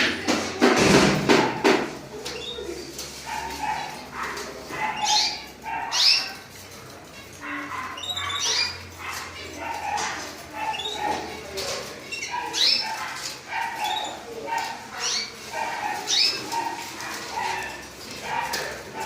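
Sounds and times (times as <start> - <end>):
canaries chirping: 0.0 - 19.0
animal calls: 2.2 - 19.0.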